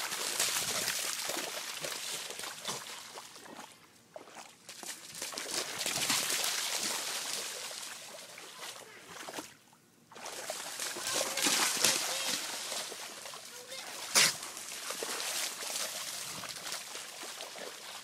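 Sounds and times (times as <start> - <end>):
dog paws splashing in water: 0.0 - 18.0.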